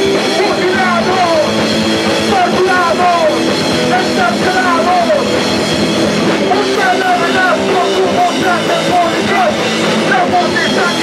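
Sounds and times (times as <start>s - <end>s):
bass guitar: 0.0s - 11.0s
distorted electric guitars: 0.0s - 11.0s
drum kit: 0.0s - 11.0s.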